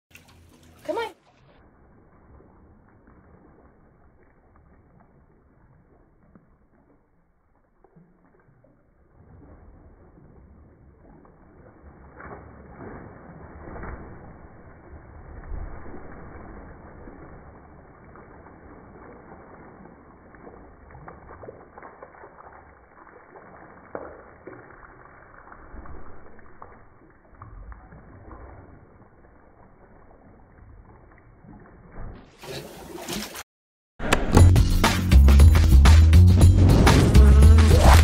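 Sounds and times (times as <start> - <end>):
slow-motion water splashing: 0.1 - 38.0.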